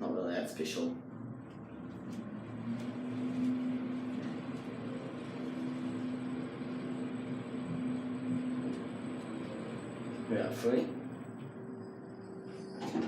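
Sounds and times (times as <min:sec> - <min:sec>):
lift machine hum: 0:01.0 - 0:13.0.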